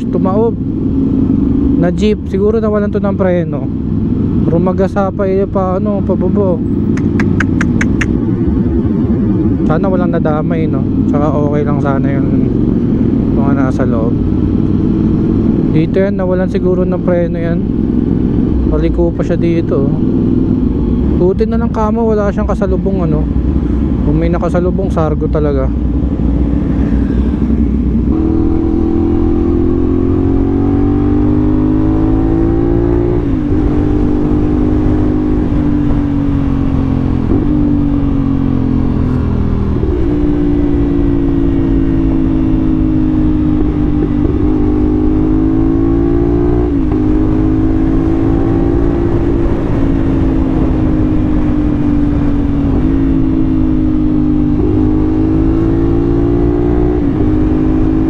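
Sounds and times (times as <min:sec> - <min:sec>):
low wind rumble: 0:00.0 - 0:58.0
motorcycle engine revving: 0:00.0 - 0:58.0.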